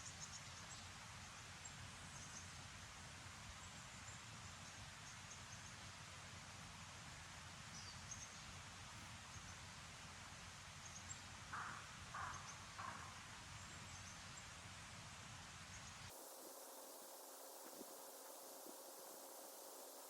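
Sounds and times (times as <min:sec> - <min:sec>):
low forest hiss: 0:00.0 - 0:20.0.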